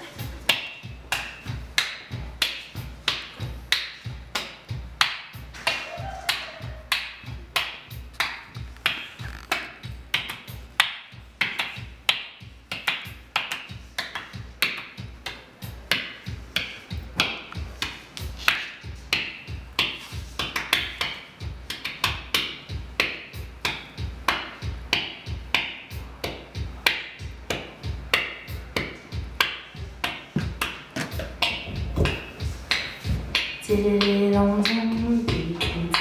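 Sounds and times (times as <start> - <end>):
beatboxing: 0.0 - 36.0.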